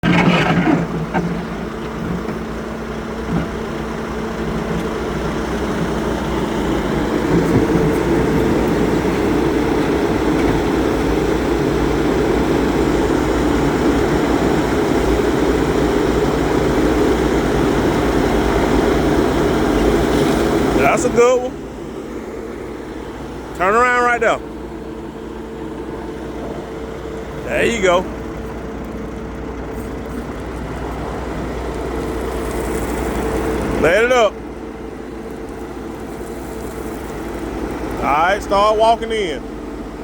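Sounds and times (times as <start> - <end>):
skid-steer loader engine running: 0.0 - 40.0.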